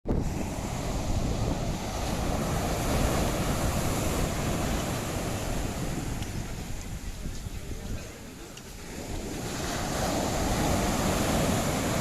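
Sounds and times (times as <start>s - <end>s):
surf washing on a beach: 0.1s - 12.0s
wind buffeting microphone: 0.1s - 12.0s.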